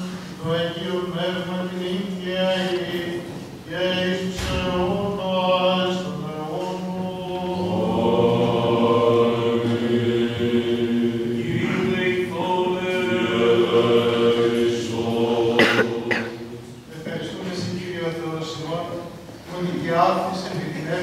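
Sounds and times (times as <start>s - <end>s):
chanters singing slow melody: 0.0s - 20.2s.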